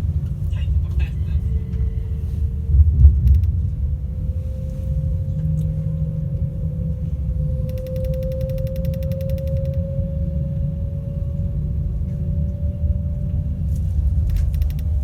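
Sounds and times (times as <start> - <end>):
low rumble: 0.0 - 15.0
train traction motors whining: 0.0 - 15.0.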